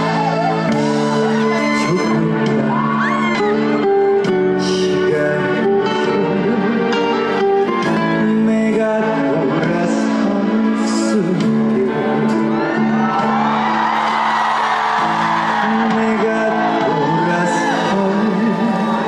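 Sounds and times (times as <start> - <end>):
person singing: 0.0 - 13.4, 14.0 - 19.0
live band music: 0.0 - 19.0.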